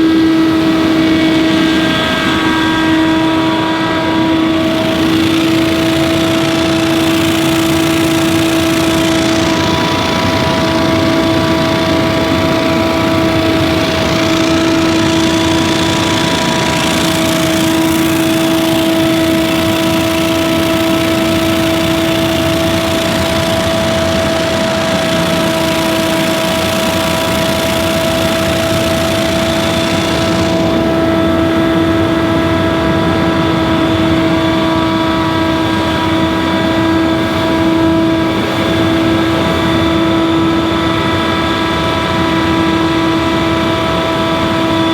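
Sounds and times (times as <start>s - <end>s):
leaf blower running: 0.0s - 44.9s.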